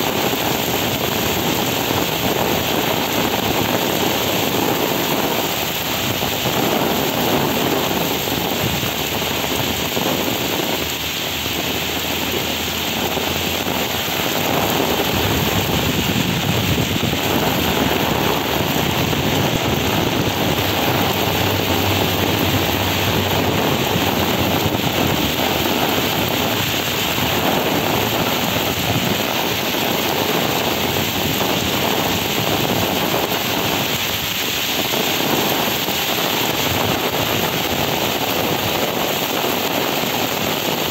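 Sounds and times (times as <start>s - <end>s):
heavy rain on pavement and grass: 0.0s - 40.9s.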